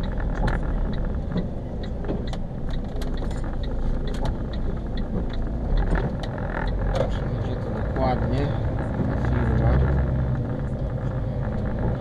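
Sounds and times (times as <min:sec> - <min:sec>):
diesel engine and road rumble: 0:00.0 - 0:12.0
turn signal ticking: 0:00.0 - 0:12.0.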